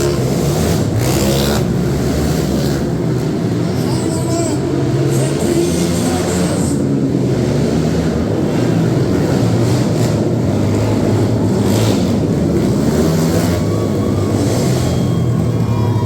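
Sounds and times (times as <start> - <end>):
loud vehicle engine running: 0.0 - 16.0.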